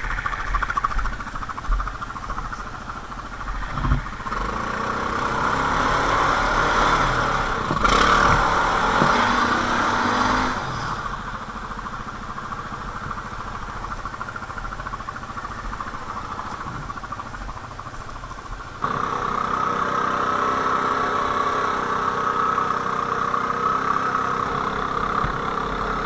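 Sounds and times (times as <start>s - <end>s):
quad engine revving and idling: 0.0s - 26.0s.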